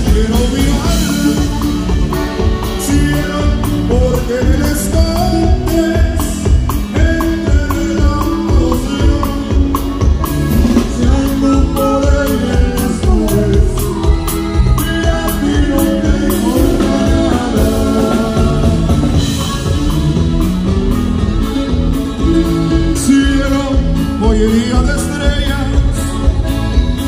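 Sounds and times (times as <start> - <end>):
live band music: 0.0 - 27.0.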